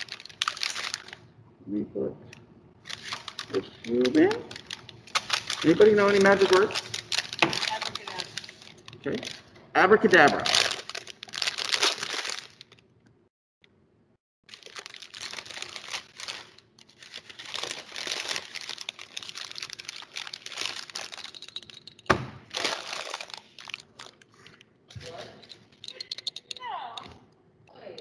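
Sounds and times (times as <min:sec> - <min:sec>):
paper bag crinkling: 0:00.0 - 0:01.2, 0:02.8 - 0:12.8, 0:14.5 - 0:25.8.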